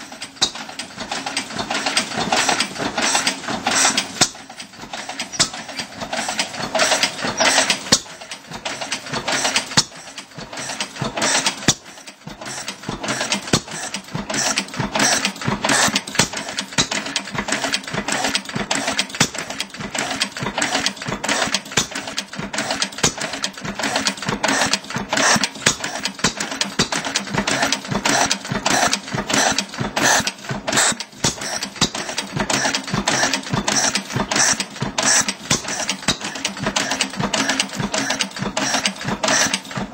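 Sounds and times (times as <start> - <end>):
engine knock: 0.0 - 39.9
stationary engine clattering: 0.0 - 39.9.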